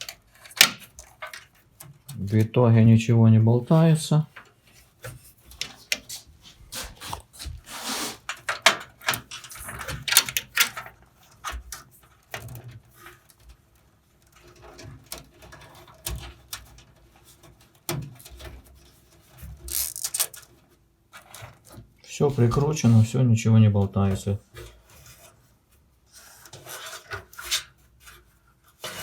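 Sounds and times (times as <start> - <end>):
wiring rustling and scraping: 0.0 - 2.6, 3.8 - 29.0.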